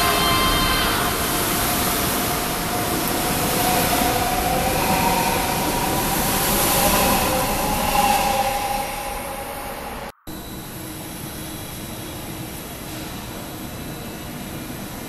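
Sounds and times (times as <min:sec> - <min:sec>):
faint rising whine: 0:00.0 - 0:15.0
train wheel and air rush: 0:00.0 - 0:15.0.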